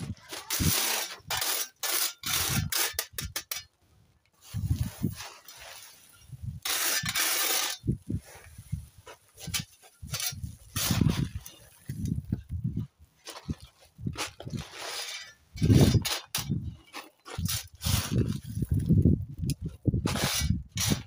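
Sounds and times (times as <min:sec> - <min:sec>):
trowel scraping gravel: 0:00.0 - 0:03.8, 0:04.4 - 0:21.0.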